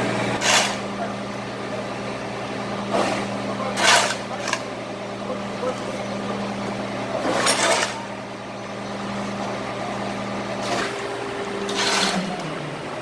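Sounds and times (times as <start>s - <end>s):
heavy truck engine idling: 0.0s - 13.0s.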